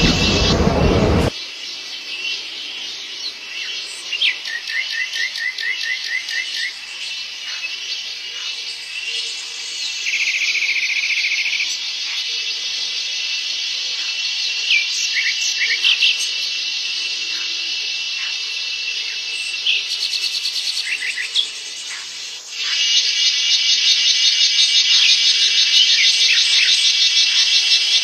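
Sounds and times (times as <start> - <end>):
forest insects buzzing and trilling: 1.3 - 28.0
loud pulsing insect trill: 5.2 - 28.0.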